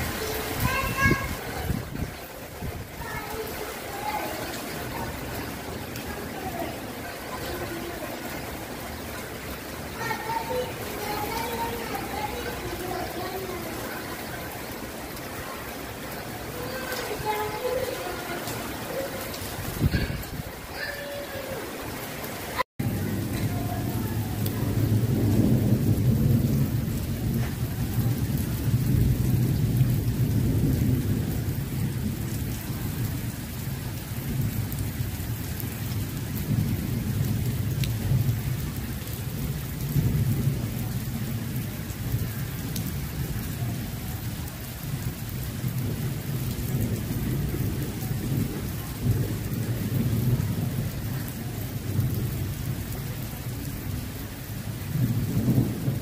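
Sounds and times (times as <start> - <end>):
heavy rain on a street: 0.0 - 56.0.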